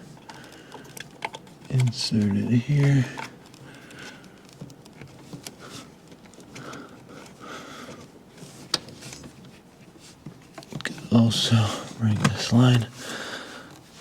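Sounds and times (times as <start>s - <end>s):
car parts being fitted by hand: 0.0s - 14.0s.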